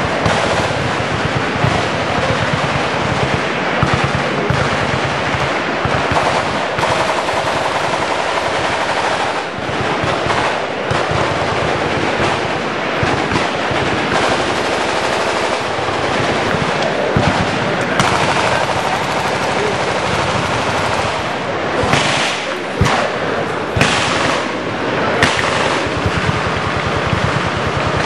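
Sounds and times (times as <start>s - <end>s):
machine-gun fire: 0.0s - 28.0s.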